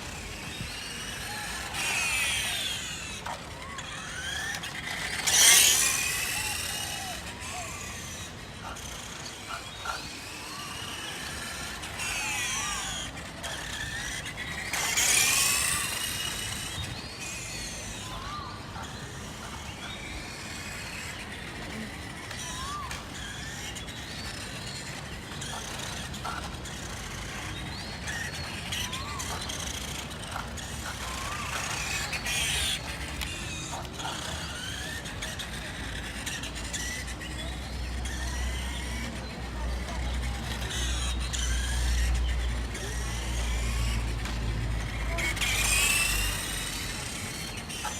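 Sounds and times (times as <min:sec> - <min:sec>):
small electric motor whining: 0:00.0 - 0:47.9.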